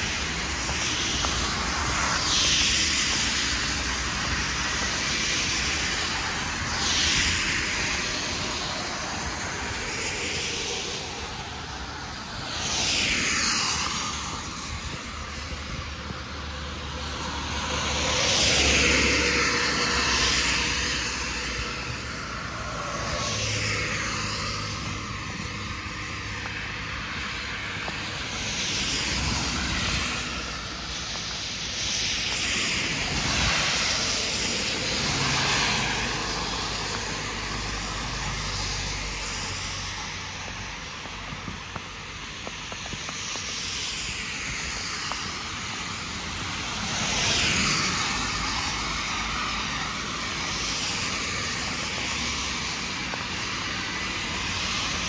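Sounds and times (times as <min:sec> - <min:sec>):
background traffic noise: 0:00.0 - 0:55.0
cars passing: 0:00.0 - 0:55.0.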